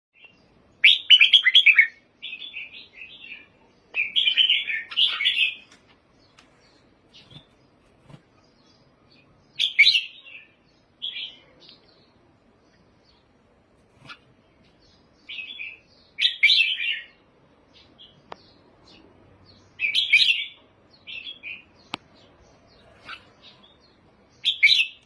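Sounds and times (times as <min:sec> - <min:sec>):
bird song phrases: 0:00.2 - 0:25.0.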